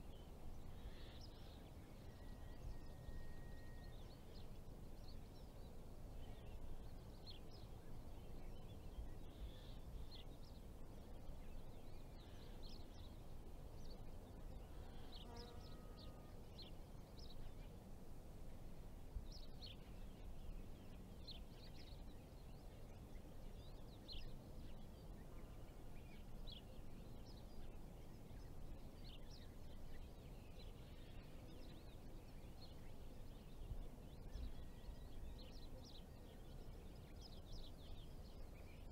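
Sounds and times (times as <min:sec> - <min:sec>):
small birds chirping: 0:00.0 - 0:18.0, 0:19.1 - 0:38.9.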